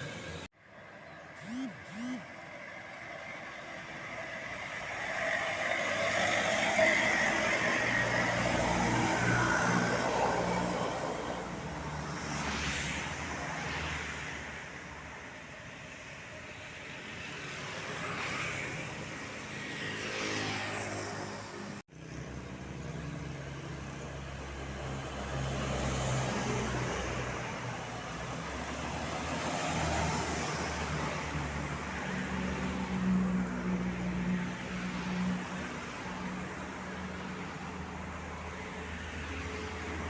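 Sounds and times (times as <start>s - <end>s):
vehicles passing by: 0.0s - 40.0s.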